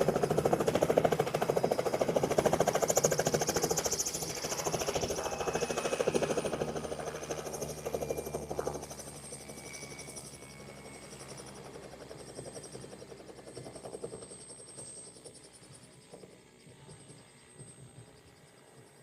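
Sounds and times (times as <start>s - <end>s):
helicopter rotor chop: 0.0s - 19.0s
high turbine whine: 0.0s - 19.0s.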